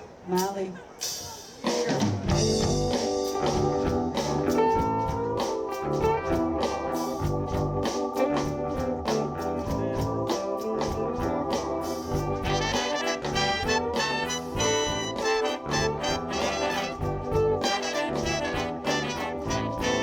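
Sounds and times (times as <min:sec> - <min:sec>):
drum kit beat: 0:00.3 - 0:20.0
bass: 0:02.0 - 0:20.0
electric guitar: 0:02.3 - 0:20.0
organ-toned keyboard chords: 0:02.3 - 0:20.0.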